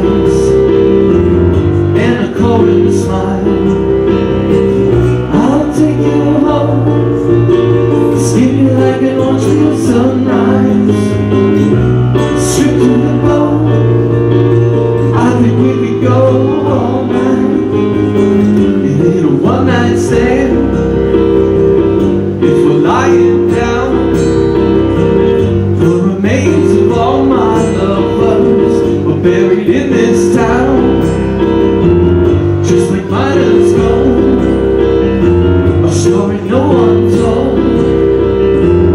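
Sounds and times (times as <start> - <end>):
man singing: 0.0 - 1.1, 1.7 - 4.6, 5.2 - 21.4, 22.3 - 24.9, 25.6 - 31.6, 32.4 - 38.9
acoustic guitars: 0.0 - 38.9
keyboard: 0.0 - 38.9.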